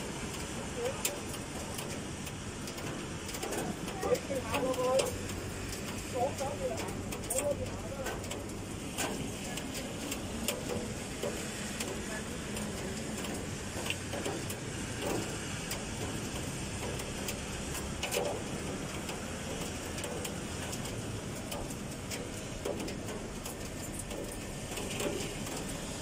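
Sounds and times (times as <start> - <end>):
heavy rain hissing: 0.0 - 26.0
raindrops ticking on surfaces: 0.0 - 26.0.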